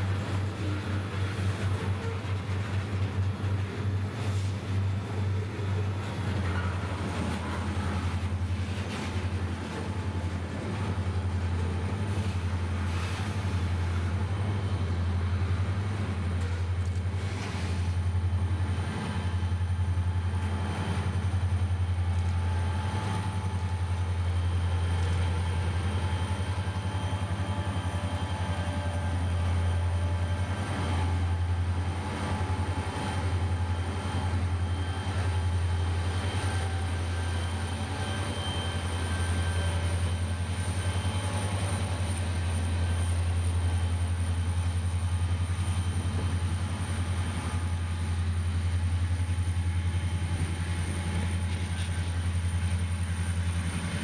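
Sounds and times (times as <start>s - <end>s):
diesel locomotive drone: 0.0s - 54.0s
freight cars rolling on rails: 0.0s - 54.0s.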